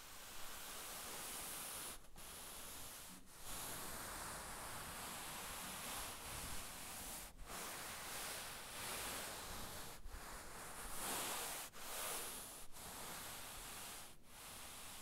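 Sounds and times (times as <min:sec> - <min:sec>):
hand rubbing on cloth: 0:01.4 - 0:15.0.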